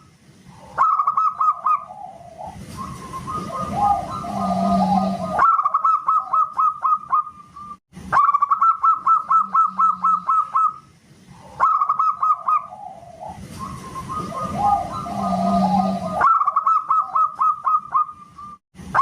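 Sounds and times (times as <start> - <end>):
dove cooing: 0.5 - 18.6.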